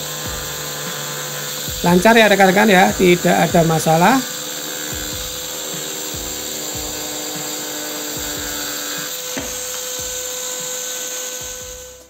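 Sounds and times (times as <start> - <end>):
angle grinder cutting ceramic tile: 0.0 - 12.0
angle grinder spinning free: 0.0 - 12.0.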